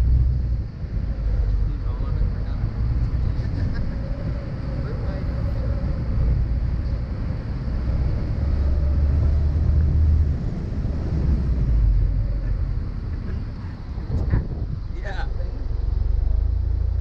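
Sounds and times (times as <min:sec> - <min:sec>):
car engine rumble: 0:00.0 - 0:17.0
road and wind noise: 0:00.0 - 0:17.0.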